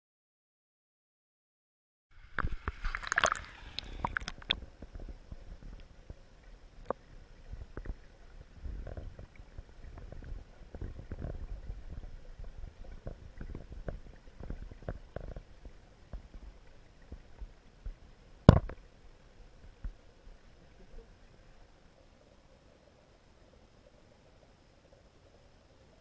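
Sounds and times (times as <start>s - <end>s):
muffled underwater rumbling: 2.2s - 26.0s
underwater ticks and knocks: 2.3s - 25.4s.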